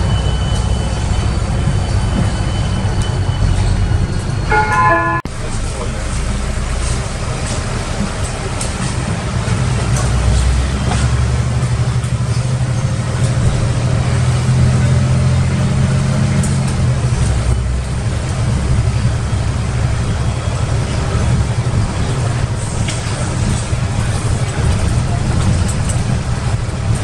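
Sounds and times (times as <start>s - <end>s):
bus body rattling: 0.0s - 27.0s
bus diesel engine drone: 0.0s - 27.0s
tyre and road noise: 0.0s - 27.0s.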